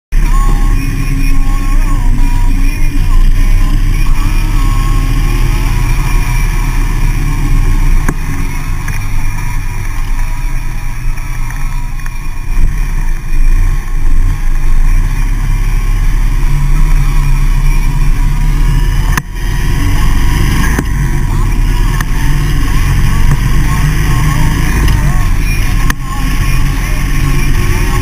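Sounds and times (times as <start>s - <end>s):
motorcycle engine accelerating: 0.2s - 28.0s.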